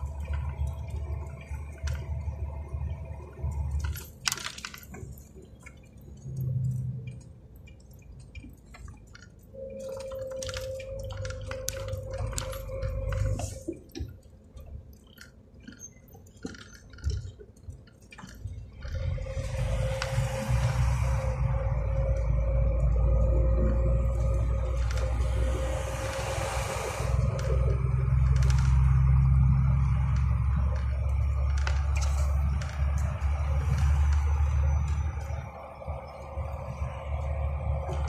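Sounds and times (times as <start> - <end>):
cab clicks and rattles: 0.0 - 20.3, 27.1 - 38.0
truck engine and road rumble: 0.0 - 38.0.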